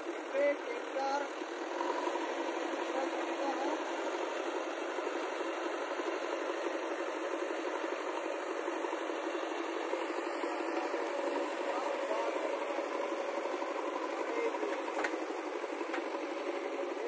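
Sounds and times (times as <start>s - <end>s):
engine running with rattle: 0.0s - 17.0s.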